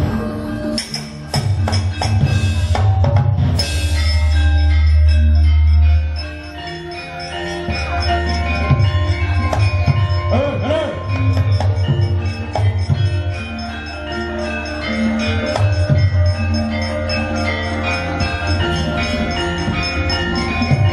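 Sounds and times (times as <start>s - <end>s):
drum strokes: 0.0s - 20.9s
gongs: 0.0s - 20.9s
metallophones ringing melody: 0.0s - 20.9s.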